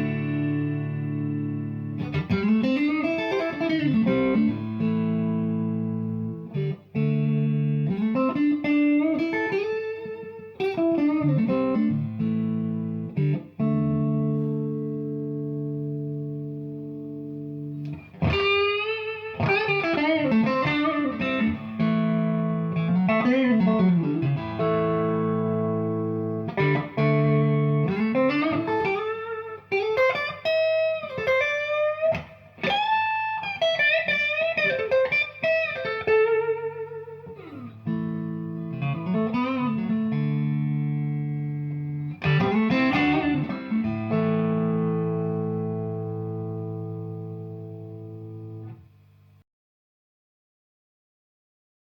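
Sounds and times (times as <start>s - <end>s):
electric guitar chords and lead: 0.0s - 48.8s.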